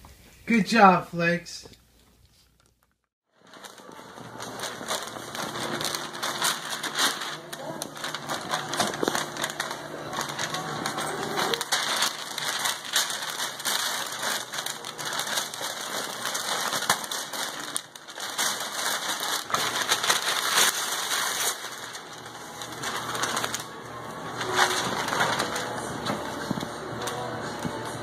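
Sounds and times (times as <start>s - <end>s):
wrapping paper crinkling and tearing: 2.4s - 28.0s.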